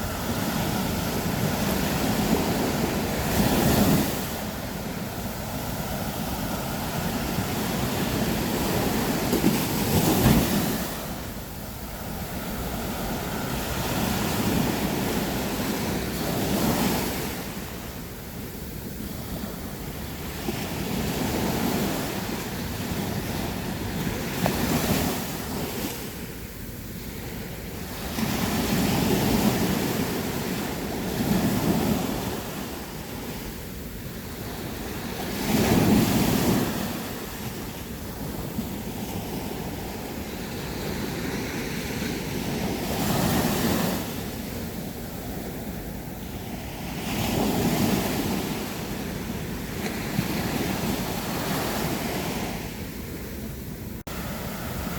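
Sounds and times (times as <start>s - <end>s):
sea waves breaking on shore: 0.0s - 54.9s.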